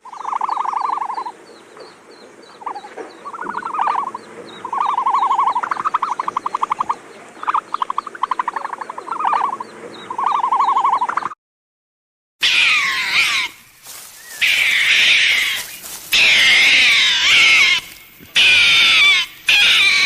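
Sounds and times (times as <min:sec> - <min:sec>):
frogs trilling croaks: 0:00.0 - 0:11.3, 0:12.4 - 0:20.0.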